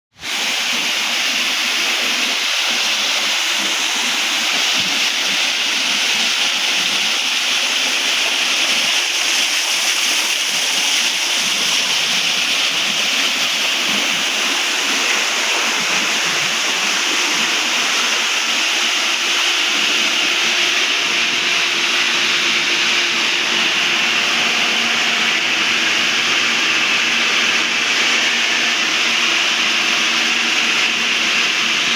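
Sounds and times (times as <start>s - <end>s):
water pouring and splashing into pool: 0.2s - 31.9s.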